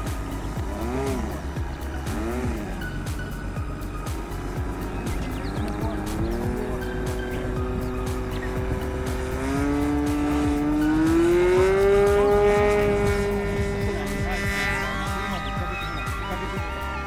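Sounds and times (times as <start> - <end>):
model aircraft engine buzzing: 0.0 - 17.0.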